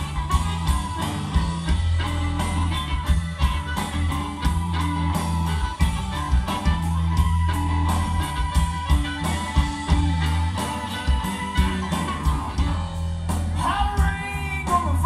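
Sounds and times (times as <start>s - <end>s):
blues band playing: 0.0s - 15.0s.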